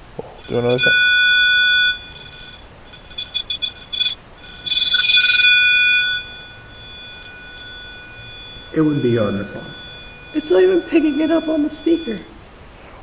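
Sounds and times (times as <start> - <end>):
electronic beeping: 0.2 - 12.3.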